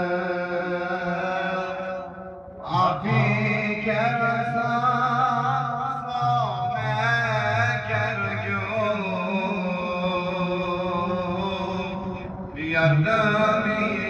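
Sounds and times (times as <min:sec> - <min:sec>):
man chanting a hymn: 0:00.0 - 0:14.0.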